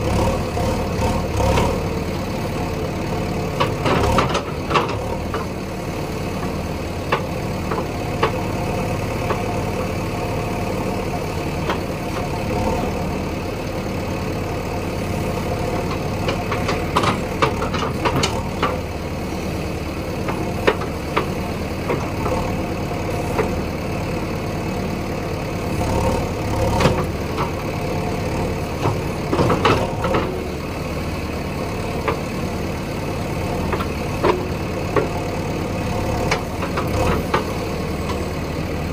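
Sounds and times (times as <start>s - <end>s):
diesel engine running at low revs: 0.0s - 38.9s.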